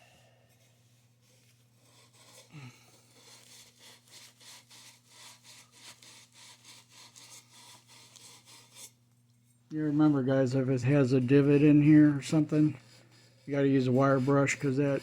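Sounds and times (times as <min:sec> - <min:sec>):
wire brush scraping inside fitting: 0:00.4 - 0:15.0.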